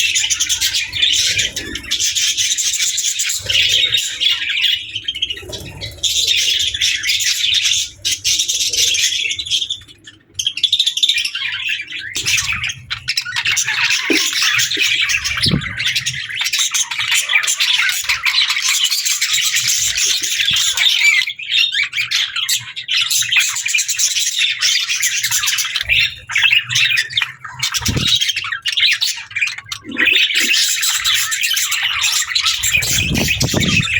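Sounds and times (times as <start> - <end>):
budgerigars chirping: 6.3 - 33.9.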